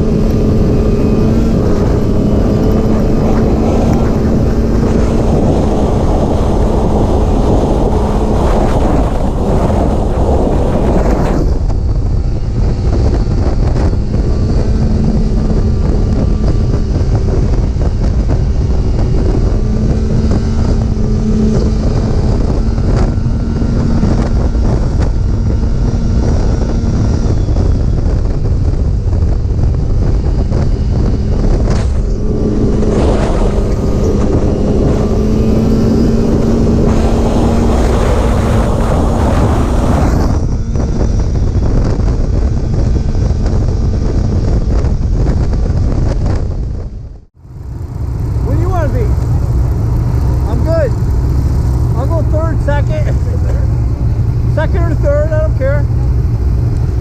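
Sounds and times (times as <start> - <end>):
snowmobile engine running: 0.0 - 57.0
wind buffeting microphone: 0.0 - 57.0.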